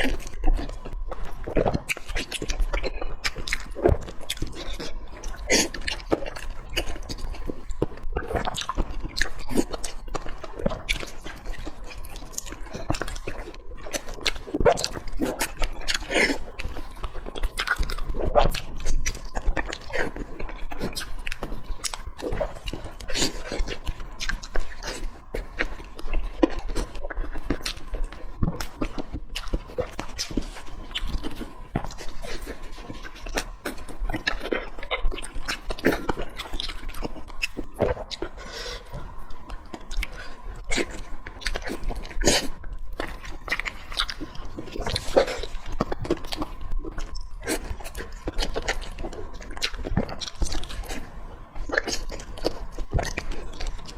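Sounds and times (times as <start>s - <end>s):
wet chewing and lip-smacking: 0.0s - 53.9s.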